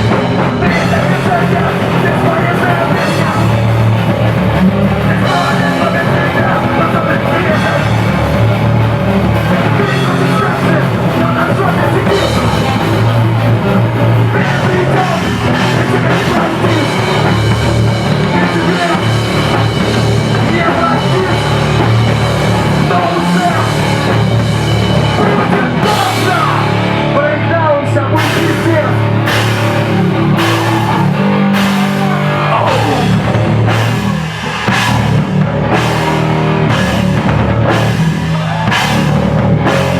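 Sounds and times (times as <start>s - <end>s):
driving drum kit: 0.0s - 39.9s
live rock band playing: 0.0s - 39.9s.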